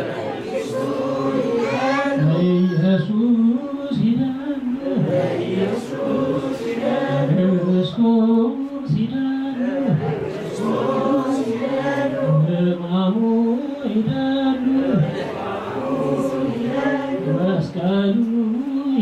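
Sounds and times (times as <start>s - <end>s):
congregation chanting in unison: 0.0s - 19.0s.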